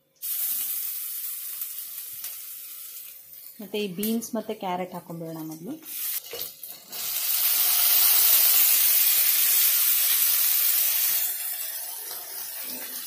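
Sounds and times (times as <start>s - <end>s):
beans sizzling in hot fat: 0.0s - 13.0s.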